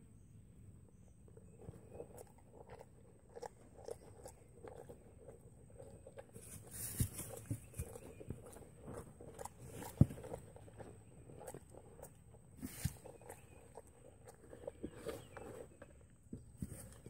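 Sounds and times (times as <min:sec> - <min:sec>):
foal chewing feed: 0:00.9 - 0:17.0.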